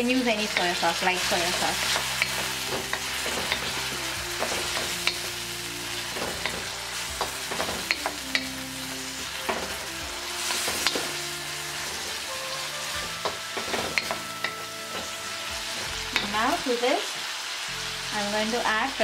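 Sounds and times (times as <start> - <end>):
vegetables sizzling in a wok: 0.0 - 19.0
spatula scraping a wok: 0.3 - 16.6.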